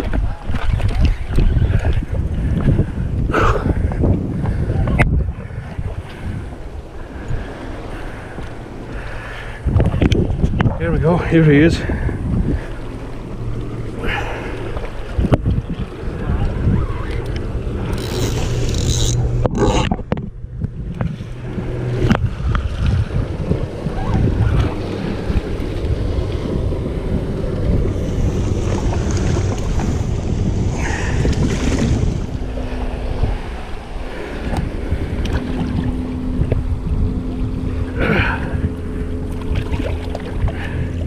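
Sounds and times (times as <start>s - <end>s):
seawater washing against rocks: 0.0s - 41.0s
wind buffeting microphone: 0.0s - 41.0s.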